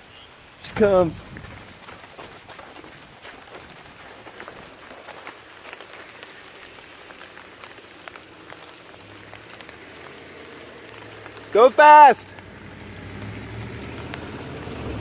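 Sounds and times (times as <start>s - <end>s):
steady rain hissing: 0.0s - 15.0s
vehicle engine hum: 0.4s - 15.0s.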